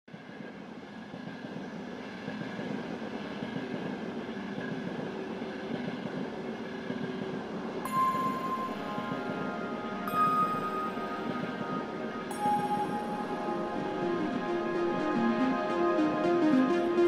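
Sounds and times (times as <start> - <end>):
faint steady whine: 0.2 - 17.0.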